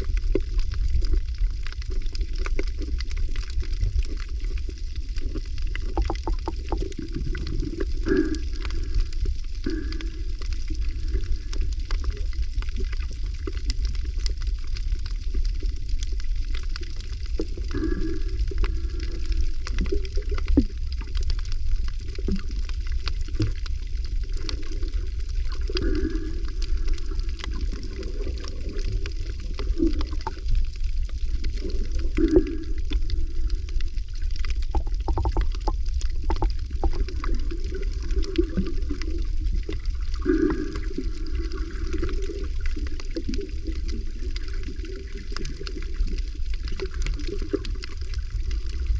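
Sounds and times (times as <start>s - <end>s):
steady low rumble: 0.0s - 48.9s
water sloshing and gurgling: 0.0s - 48.9s.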